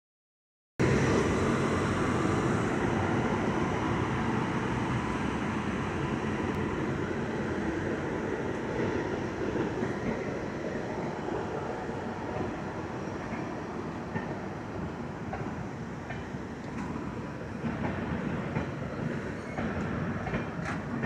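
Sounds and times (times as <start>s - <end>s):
passenger train passing: 0.8s - 21.0s.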